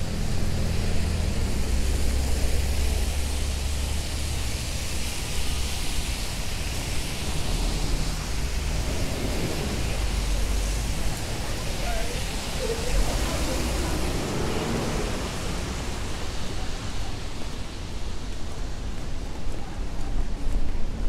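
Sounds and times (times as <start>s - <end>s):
rain hiss: 0.0s - 21.0s
traffic rumble: 0.0s - 21.0s
tyres on wet pavement: 0.0s - 21.0s.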